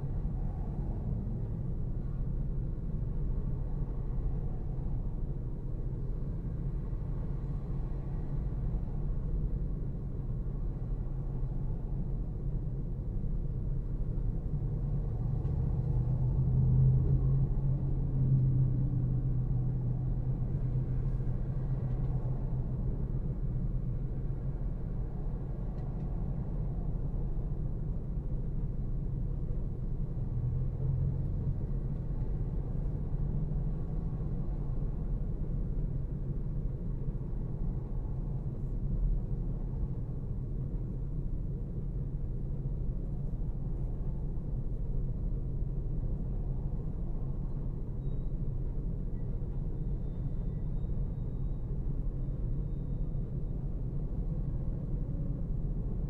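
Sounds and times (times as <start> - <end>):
car cabin engine and road hum: 0.0 - 56.0.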